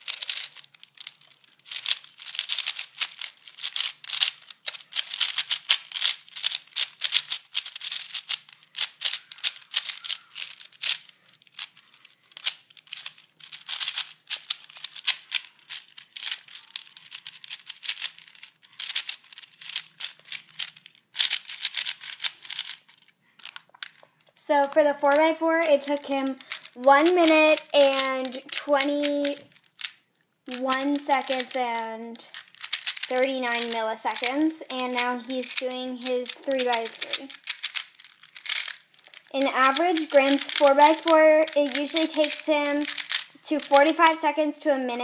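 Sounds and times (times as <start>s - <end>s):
plastic puzzle cube clicking: 0.0s - 31.6s, 32.2s - 44.2s.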